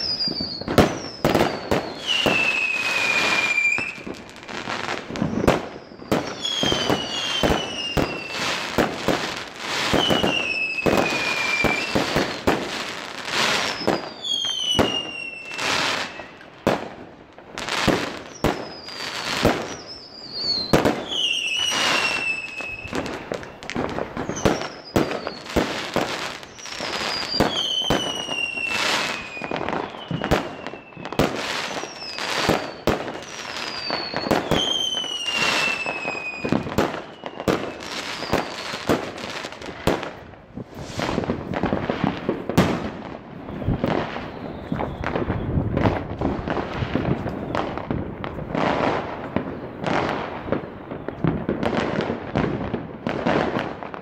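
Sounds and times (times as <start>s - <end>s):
falling whistle of fireworks: 0.0s - 54.0s
fireworks bangs and crackles: 0.0s - 54.0s.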